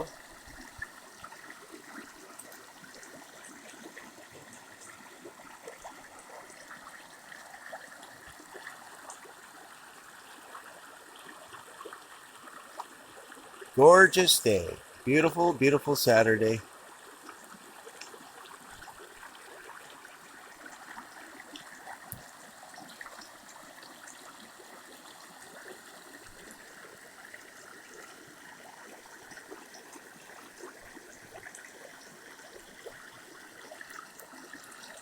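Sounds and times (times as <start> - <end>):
water running and trickling: 0.0 - 13.7, 16.7 - 35.0.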